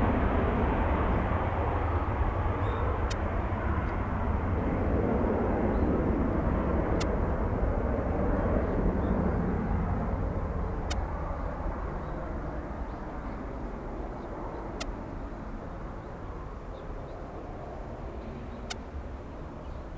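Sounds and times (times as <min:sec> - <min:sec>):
jet engine rumble: 0:00.0 - 0:19.9.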